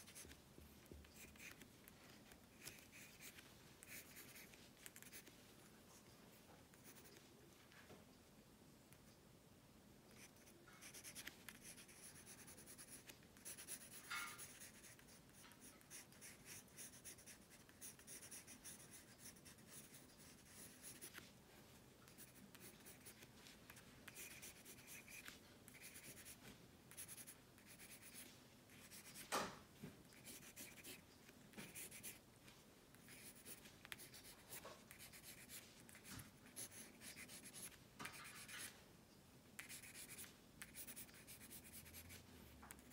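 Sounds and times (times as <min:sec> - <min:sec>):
pencil scratching on paper: 0:00.0 - 0:00.4, 0:01.1 - 0:05.4, 0:06.7 - 0:07.3, 0:10.1 - 0:21.3, 0:22.1 - 0:29.3, 0:30.1 - 0:32.2, 0:33.0 - 0:38.8, 0:39.6 - 0:42.9.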